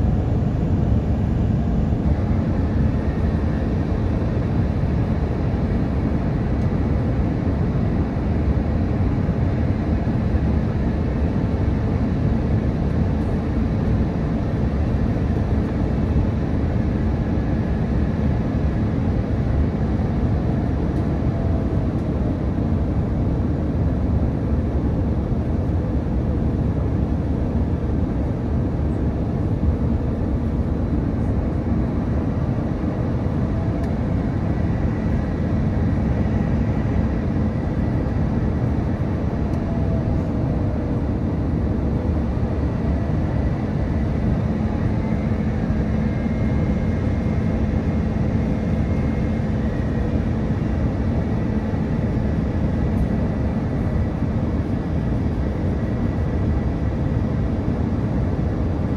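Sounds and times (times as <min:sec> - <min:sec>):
airplane cabin rumble: 0:00.0 - 0:58.9.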